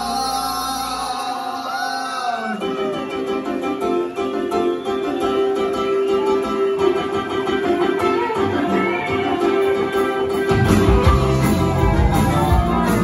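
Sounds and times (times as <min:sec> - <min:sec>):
guitar: 0:00.0 - 0:13.0
live rock band playing: 0:02.4 - 0:13.0.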